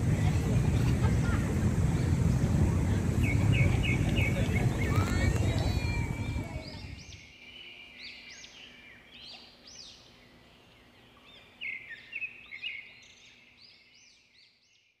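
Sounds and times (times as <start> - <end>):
small birds chirping: 2.9 - 15.0.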